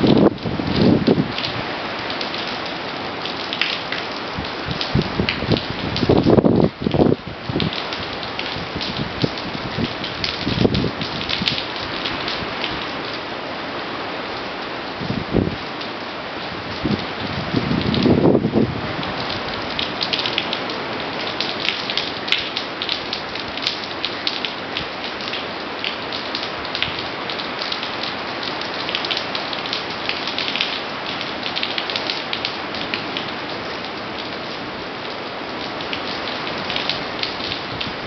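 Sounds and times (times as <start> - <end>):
heavy rain pouring onto pavement: 0.0 - 38.0.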